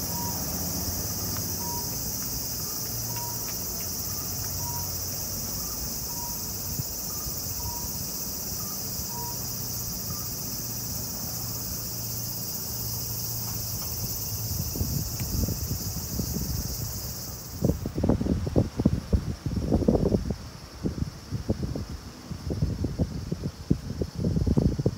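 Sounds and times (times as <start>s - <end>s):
insects chorus: 0.0s - 24.9s.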